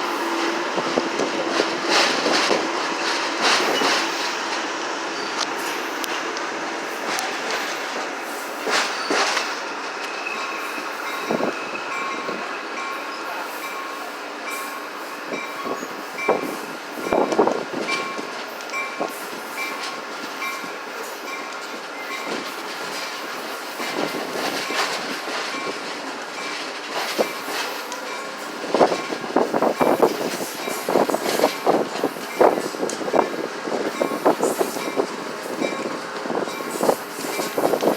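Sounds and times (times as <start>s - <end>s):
train wheels rumbling: 0.0s - 37.9s
wheels clanking over rail joints: 0.0s - 37.9s.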